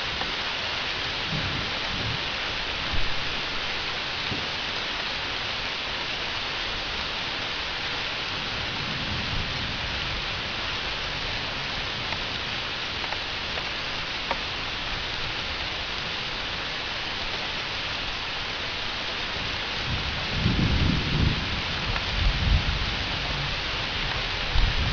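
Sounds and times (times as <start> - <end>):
heavy rain hiss: 0.0 - 24.9.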